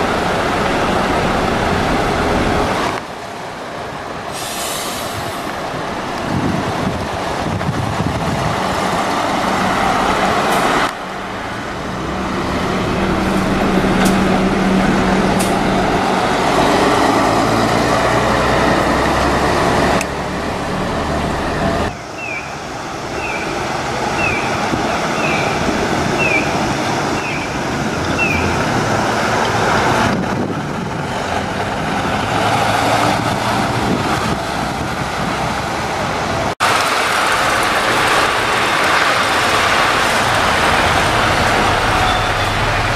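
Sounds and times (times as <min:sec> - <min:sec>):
diesel buses driving past: 0:00.0 - 0:42.9
road noise: 0:00.0 - 0:42.9.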